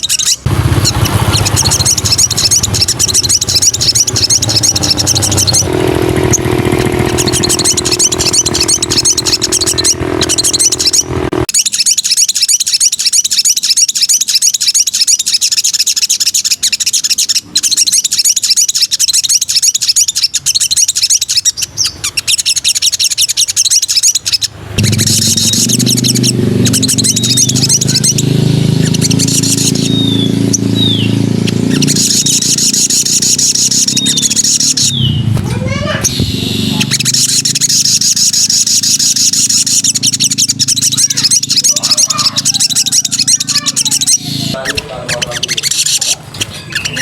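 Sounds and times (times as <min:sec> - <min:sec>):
bird chattering song: 0:00.0 - 0:47.0.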